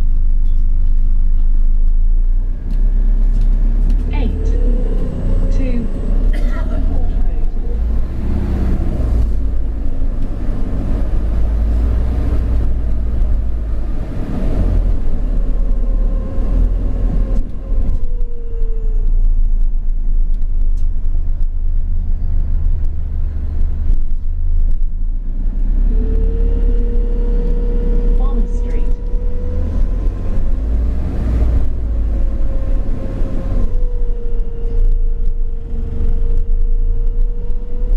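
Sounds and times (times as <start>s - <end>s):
bus engine rumble: 0.0s - 37.9s.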